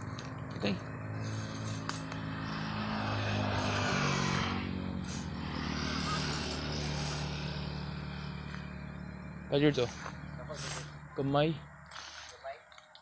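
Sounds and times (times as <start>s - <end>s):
rush of passing vehicle: 0.0s - 12.4s
vehicle engine running: 0.0s - 12.5s.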